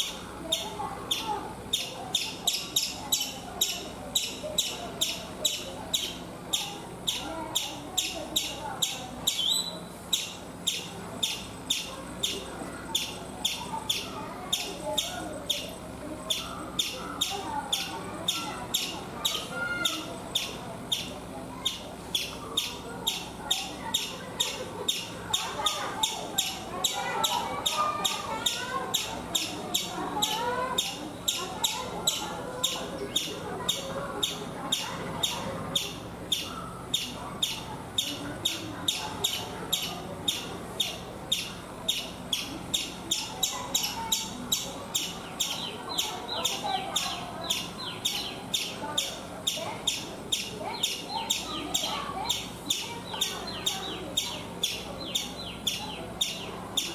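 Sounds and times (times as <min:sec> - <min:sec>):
squirrel alarm calls: 0:00.0 - 0:56.9
warbling bird calls: 0:00.0 - 0:56.9.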